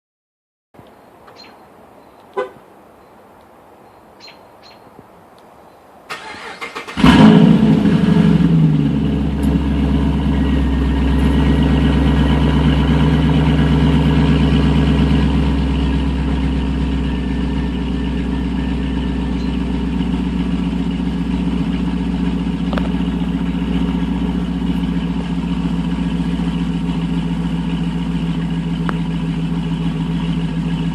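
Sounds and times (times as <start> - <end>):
car engine cranking and idling: 6.1 - 30.9.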